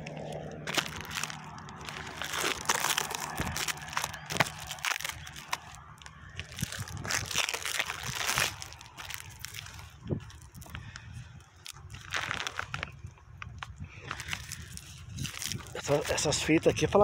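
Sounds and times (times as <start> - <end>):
plastic wrap and tape crinkling: 0.0 - 17.0.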